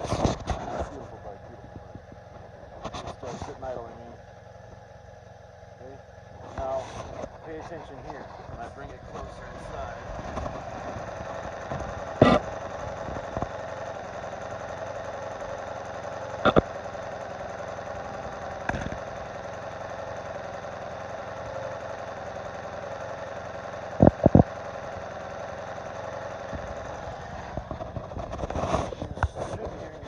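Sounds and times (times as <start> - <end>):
engine ticking: 0.0 - 30.0
motorcycle engine idling: 0.0 - 30.0.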